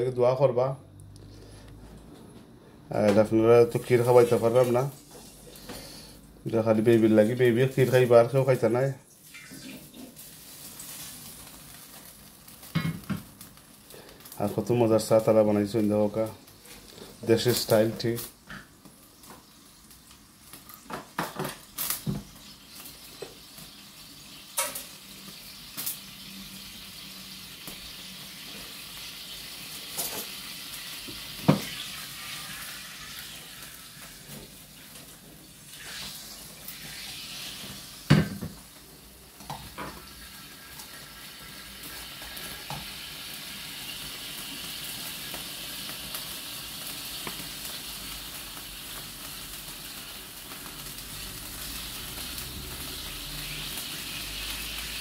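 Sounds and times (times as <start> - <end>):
steady hiss: 2.8 - 55.0.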